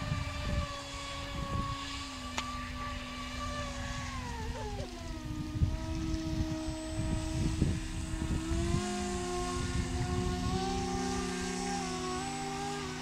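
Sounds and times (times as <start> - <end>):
electric motors whining: 0.0 - 13.0
wind rumbling on microphone: 0.0 - 13.0.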